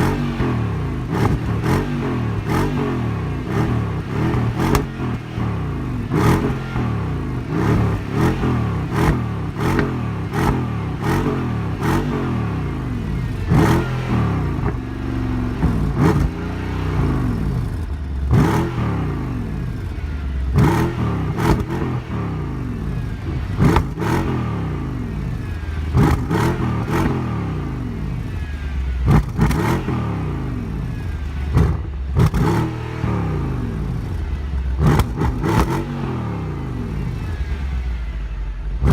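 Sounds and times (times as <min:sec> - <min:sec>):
exhaust cracks: 0:00.0 - 0:36.0
car engine revving: 0:00.0 - 0:38.9.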